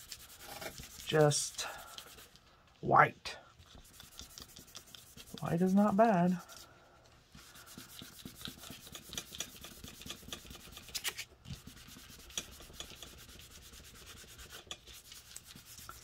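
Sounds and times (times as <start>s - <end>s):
pad rubbing on paper: 0.0s - 2.3s, 3.6s - 6.7s, 7.4s - 16.0s.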